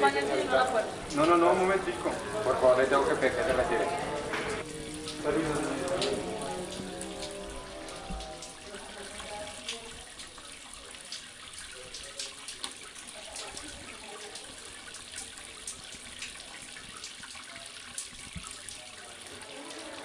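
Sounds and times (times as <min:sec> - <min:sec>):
sharp drips and ticks: 0:00.0 - 0:20.0.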